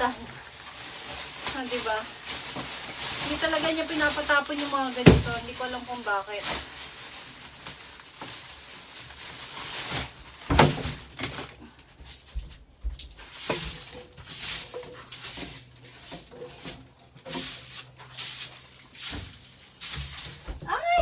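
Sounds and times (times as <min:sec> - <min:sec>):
objects knocking and rustling: 0:00.0 - 0:21.0.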